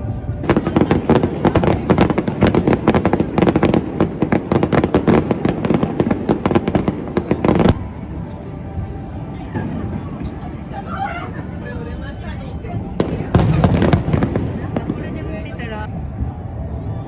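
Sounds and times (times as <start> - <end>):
fireworks bangs and crackles: 0.0 - 10.5, 12.8 - 17.0.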